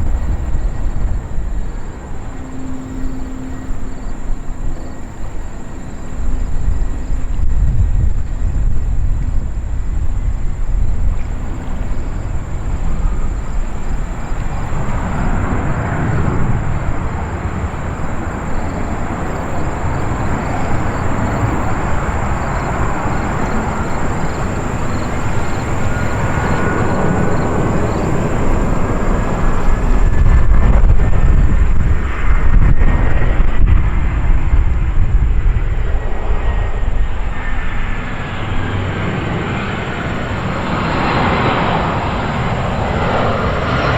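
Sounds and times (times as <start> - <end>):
jet airliner rumble: 0.0 - 43.9
rising jet whine: 0.0 - 43.9.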